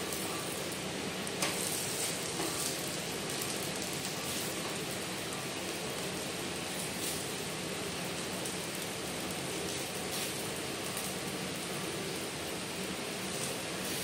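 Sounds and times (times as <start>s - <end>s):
pancake sizzling in oil: 0.0s - 14.0s.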